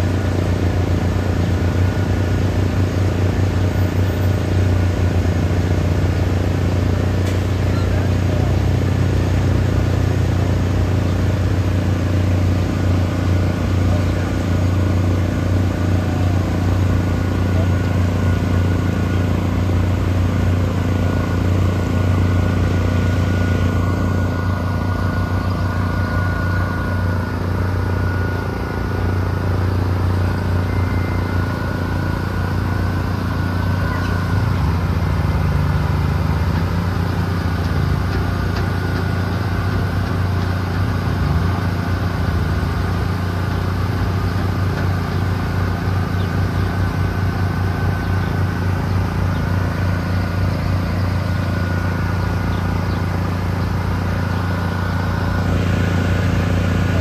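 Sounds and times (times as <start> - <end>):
heavy truck engine humming: 0.0 - 57.0.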